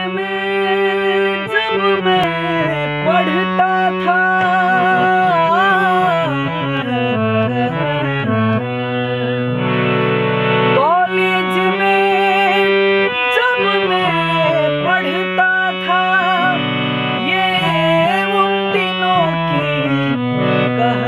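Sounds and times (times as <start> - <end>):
instrumental song melody: 0.0 - 21.0.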